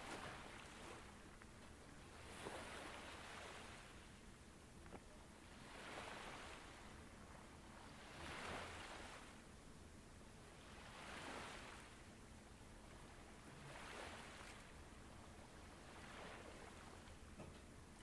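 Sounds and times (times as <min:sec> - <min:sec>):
faint ocean waves on shore: 0:00.0 - 0:18.0.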